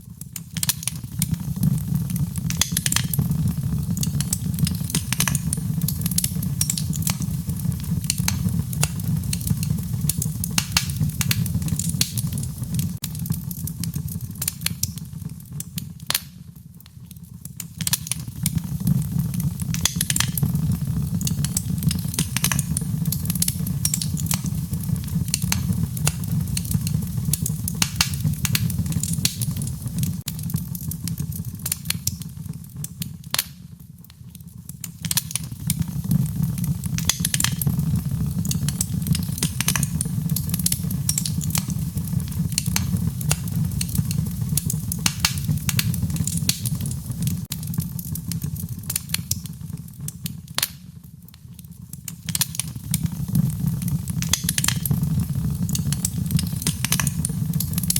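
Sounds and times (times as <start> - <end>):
fire crackling and popping: 0.0 - 57.9
wood fire rumbling: 0.0 - 57.9.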